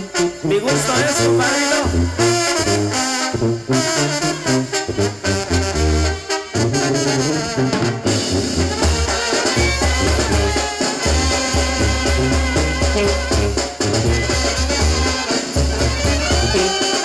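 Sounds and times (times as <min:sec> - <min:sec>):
sousaphone bass line: 0:00.0 - 0:10.6, 0:11.2 - 0:16.9
drums: 0:00.0 - 0:17.0
trumpets and trombones: 0:00.0 - 0:17.0.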